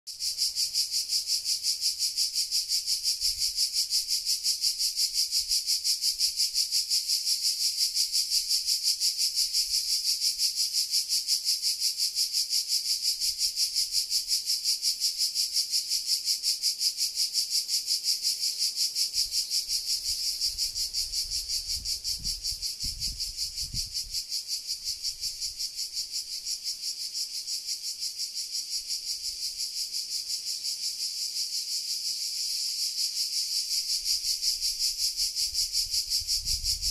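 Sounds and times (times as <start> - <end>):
cicadas singing: 0.1 - 36.9.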